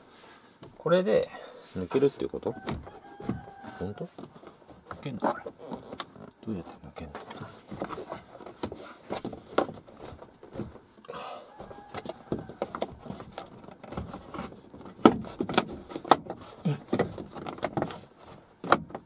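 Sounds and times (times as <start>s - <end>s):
plastic panel rustling: 1.9s - 11.0s, 11.6s - 19.0s.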